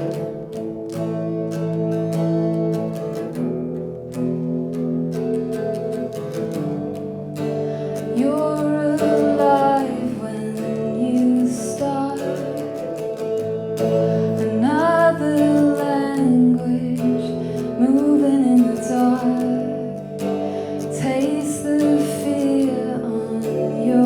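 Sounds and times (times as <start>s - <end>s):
guitar accompaniment: 0.0s - 24.0s.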